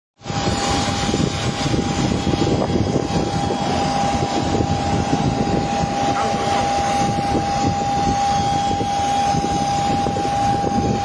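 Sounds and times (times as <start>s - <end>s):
jet engine whine and rumble: 0.2s - 11.0s.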